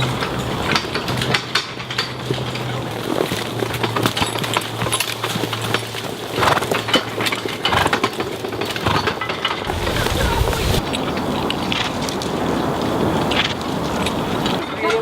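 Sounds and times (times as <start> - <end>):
trailer knocking and clatter: 0.0 - 14.6
horse hooves clopping: 0.0 - 15.0.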